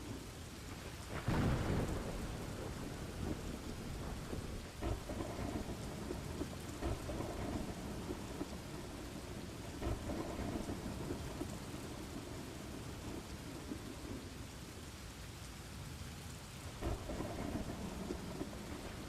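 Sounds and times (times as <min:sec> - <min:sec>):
low thunder rumble: 0:00.0 - 0:14.6, 0:16.7 - 0:19.0
steady rain falling: 0:00.0 - 0:19.0.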